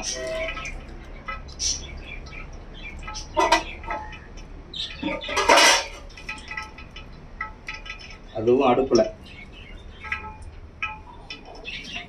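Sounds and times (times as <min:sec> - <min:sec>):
birds chirping: 0:00.0 - 0:12.0
utensils and pans clattering: 0:00.0 - 0:12.0.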